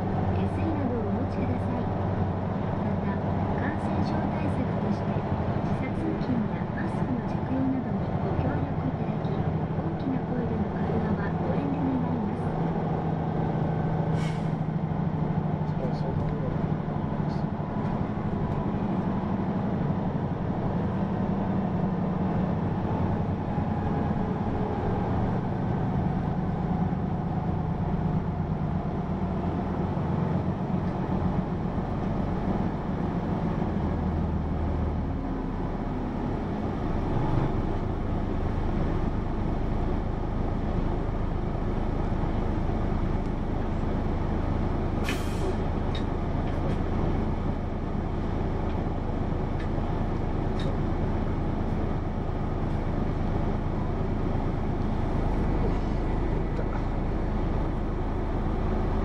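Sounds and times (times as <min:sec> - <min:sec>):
bus diesel engine running: 0:00.0 - 0:59.0
road noise: 0:00.0 - 0:59.0.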